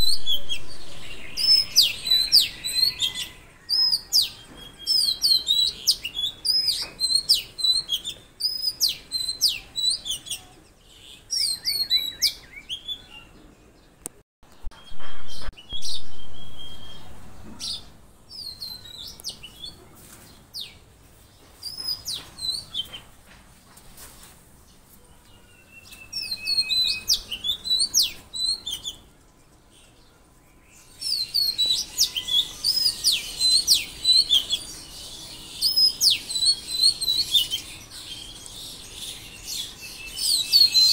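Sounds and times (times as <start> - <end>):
small songbirds chirping: 0.0 - 23.2, 24.6 - 40.9.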